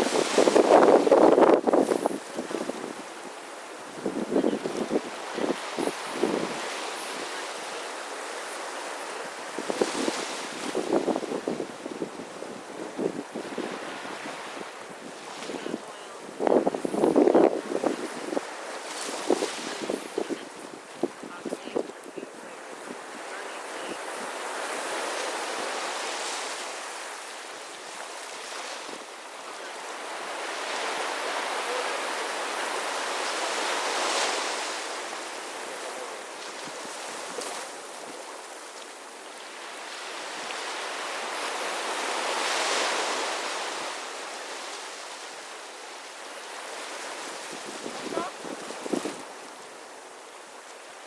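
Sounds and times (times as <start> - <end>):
sea surf breaking on beach: 0.0 - 51.0.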